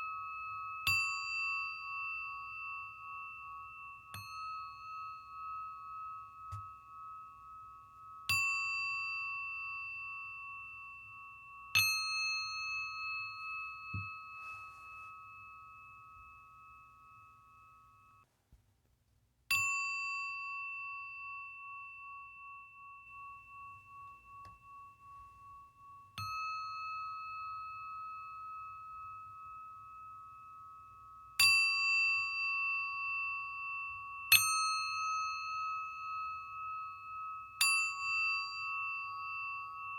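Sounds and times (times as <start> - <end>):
singing bowl ringing: 0.0 - 18.3, 19.5 - 39.9.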